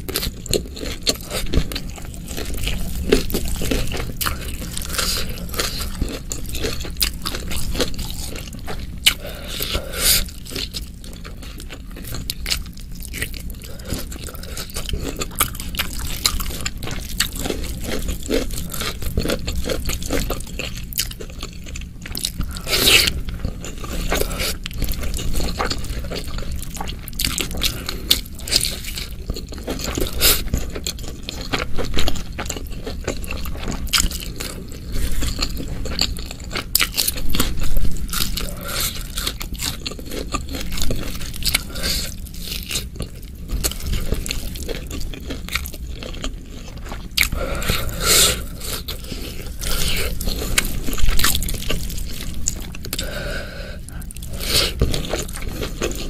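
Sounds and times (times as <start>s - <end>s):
chewing: 0.0s - 56.0s.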